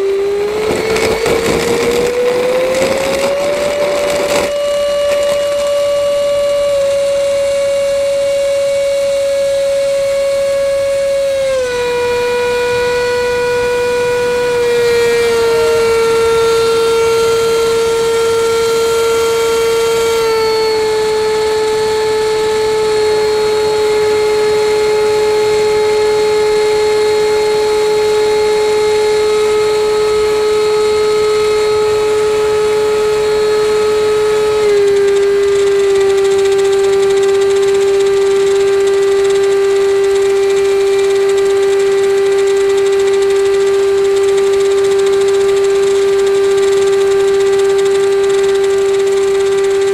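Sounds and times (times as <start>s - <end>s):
model jet engine whine: 0.0s - 49.9s.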